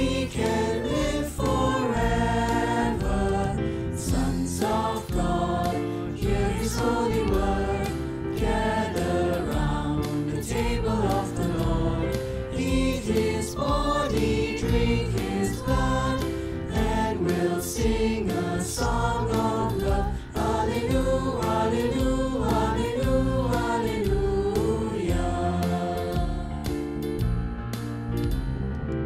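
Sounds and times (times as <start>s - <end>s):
choir singing a hymn: 0.0s - 26.8s.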